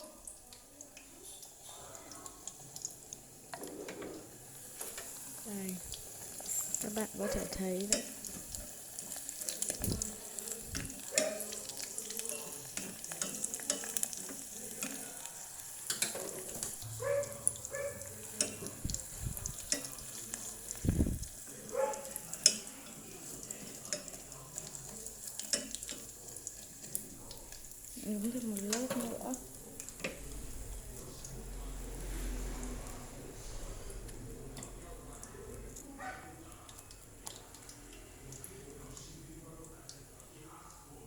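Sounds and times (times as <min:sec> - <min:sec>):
hot oil sizzling and crackling: 0:00.0 - 0:41.0.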